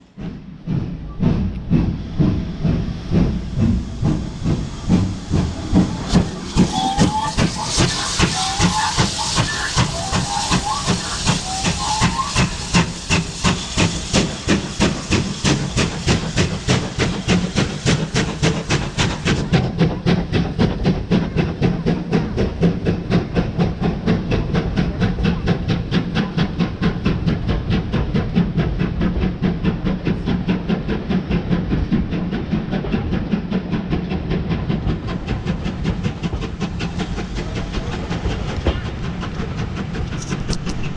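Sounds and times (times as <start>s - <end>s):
steam locomotive exhaust chuffing: 0.0s - 40.9s
loud hiss of steam: 0.7s - 40.9s.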